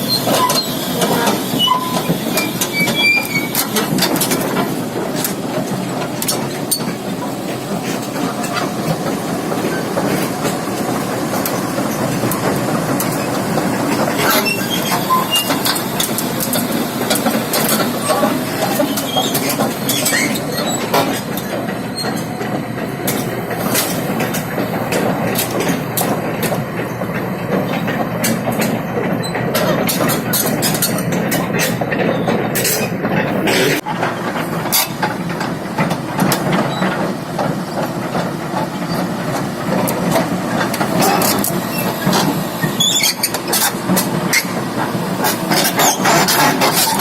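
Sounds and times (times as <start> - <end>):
excavator engine running: 0.0 - 47.0
metal clanks and knocks: 0.1 - 47.0.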